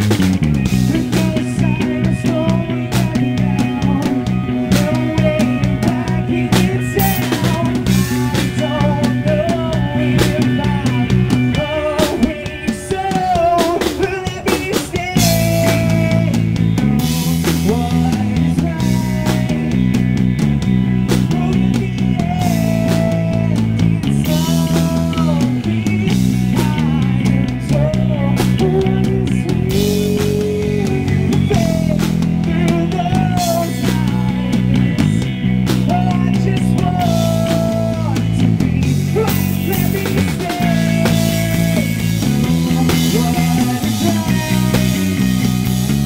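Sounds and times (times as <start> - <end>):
man singing: 0.0 - 20.3, 20.9 - 46.0
drum kit: 0.0 - 46.0
electric guitar: 0.0 - 46.0.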